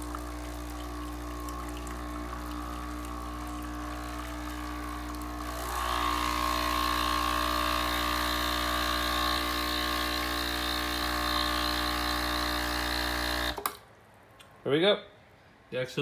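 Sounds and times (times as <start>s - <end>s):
water pouring into plastic jug: 0.0s - 13.6s
espresso machine pump humming: 0.0s - 13.7s.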